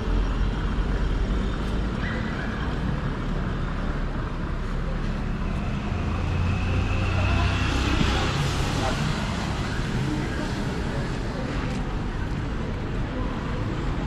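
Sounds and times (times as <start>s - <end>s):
rumble of passing cars: 0.0s - 14.0s
vehicle engine low drone: 0.0s - 14.0s.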